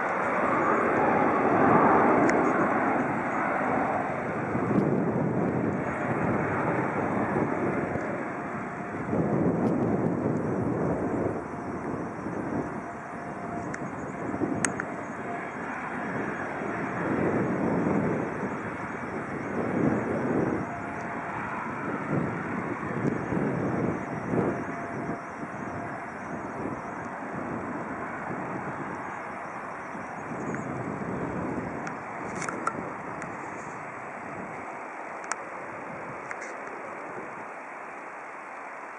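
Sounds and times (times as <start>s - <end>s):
wind on microphone: 0.0s - 37.8s
distant jet engine rumble: 0.0s - 38.9s.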